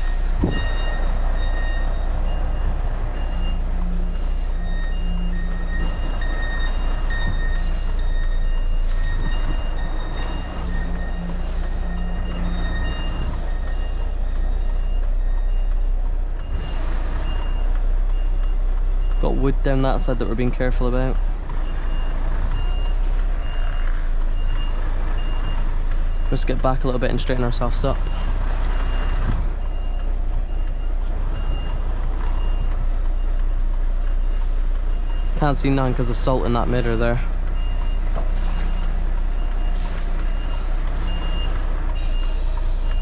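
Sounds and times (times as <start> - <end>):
diesel engine drone: 0.0 - 43.0
reversing alarm beeping: 0.0 - 43.0.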